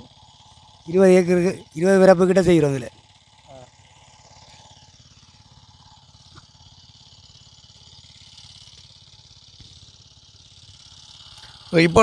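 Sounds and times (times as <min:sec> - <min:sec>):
constant high hiss: 0:00.0 - 0:12.0
small engine running: 0:00.0 - 0:12.0.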